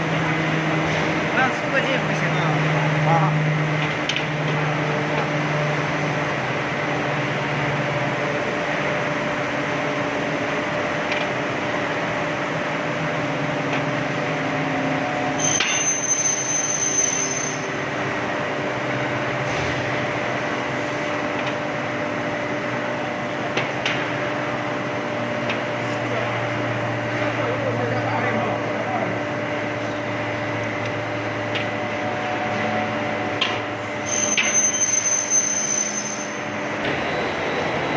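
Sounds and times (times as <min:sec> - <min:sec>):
industrial furnace running: 0:00.0 - 0:37.9.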